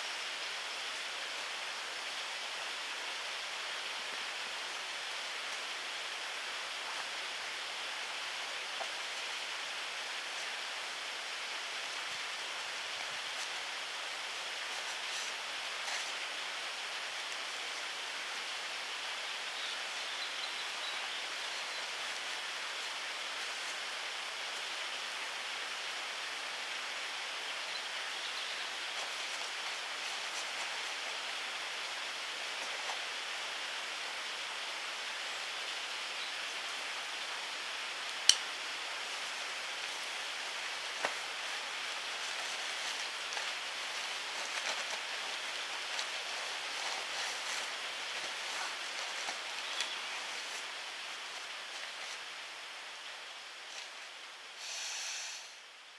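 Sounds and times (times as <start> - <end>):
steady woodland hiss: 0.0 - 55.9.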